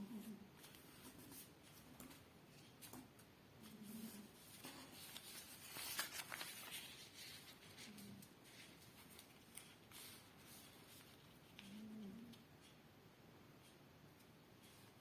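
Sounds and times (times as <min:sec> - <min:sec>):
paper being folded: 0:00.2 - 0:12.3.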